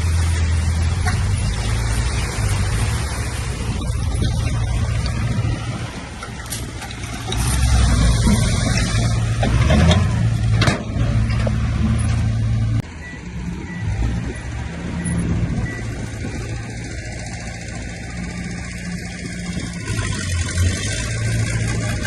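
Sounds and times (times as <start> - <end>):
heavy machine diesel engines: 0.0 - 22.0.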